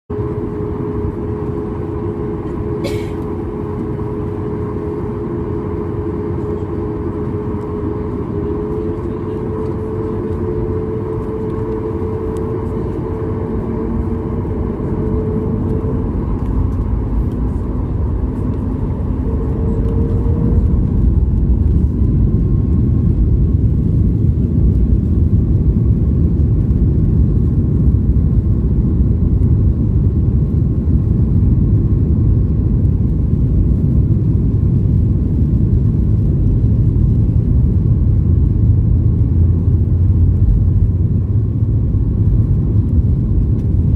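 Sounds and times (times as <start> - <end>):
humming engine tones: 0.1 - 43.9
jet engines at takeoff: 0.1 - 43.9.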